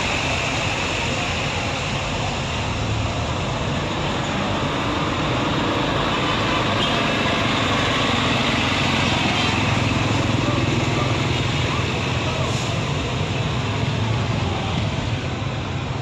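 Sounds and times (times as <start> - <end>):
roadside traffic noise: 0.0 - 16.0.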